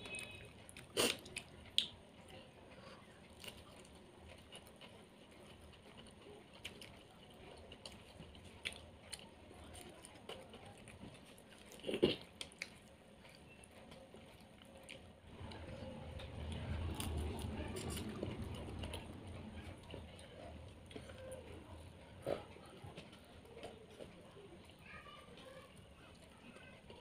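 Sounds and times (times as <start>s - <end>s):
person chewing fried fish: 0.0s - 24.2s.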